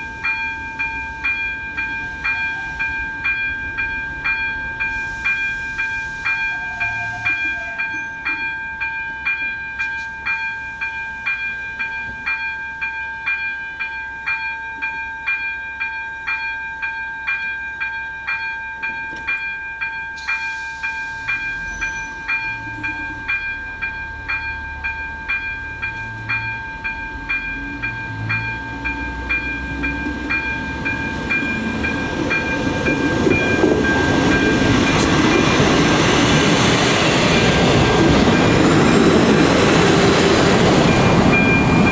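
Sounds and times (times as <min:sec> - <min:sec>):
diesel railcar engine and wheels: 0:00.0 - 0:41.9
electronic crossing bell ringing: 0:00.0 - 0:41.9.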